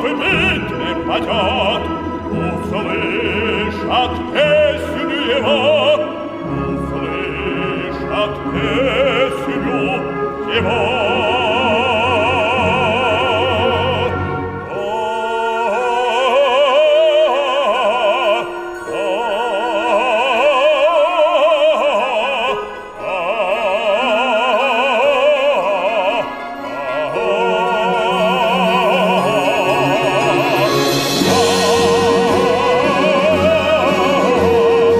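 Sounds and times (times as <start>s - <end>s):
folk-instrument orchestra: 0.0s - 34.9s
male operatic singing: 0.0s - 34.9s.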